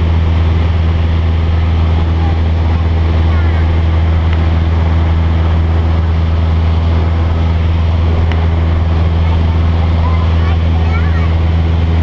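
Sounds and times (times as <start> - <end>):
aircraft engine drone: 0.0 - 12.0.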